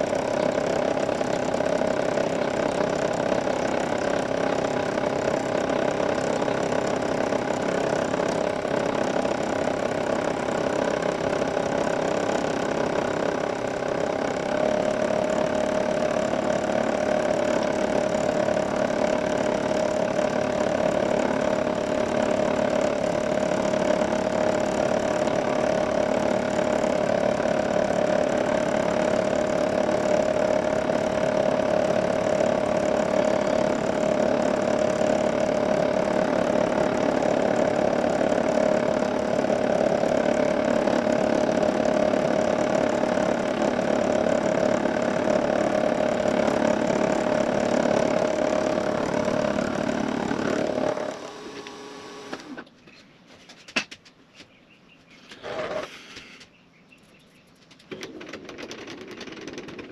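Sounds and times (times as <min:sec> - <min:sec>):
milling machine running: 0:00.0 - 0:52.6
fly cutter whine on metal: 0:00.0 - 0:52.7.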